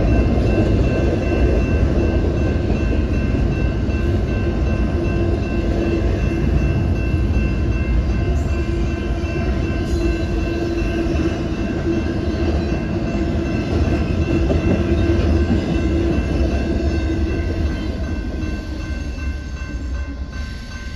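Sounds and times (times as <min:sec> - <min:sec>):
train rumbling past: 0:00.0 - 0:20.9.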